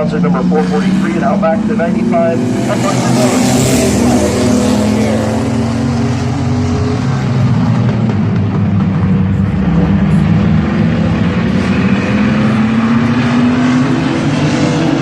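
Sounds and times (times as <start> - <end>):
racing truck engines: 0.0 - 15.0.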